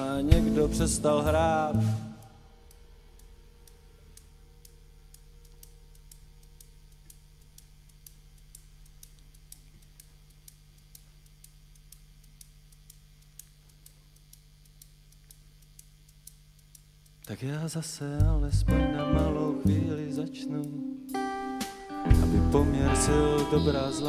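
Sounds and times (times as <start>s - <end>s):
amplifier mains hum: 0.0s - 24.0s
faint irregular clicks: 0.2s - 22.6s.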